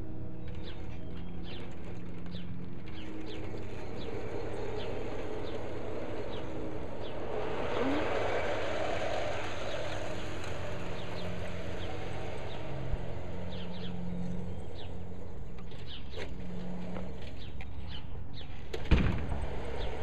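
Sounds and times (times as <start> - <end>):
model train rumbling on track: 0.0 - 17.6
birds chirping: 0.0 - 20.0.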